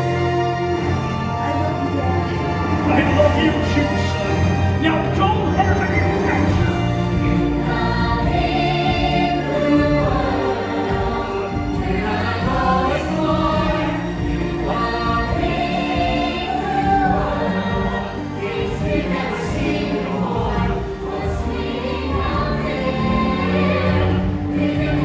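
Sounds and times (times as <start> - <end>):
choir singing: 0.0 - 25.0
musical backing track: 0.0 - 25.0.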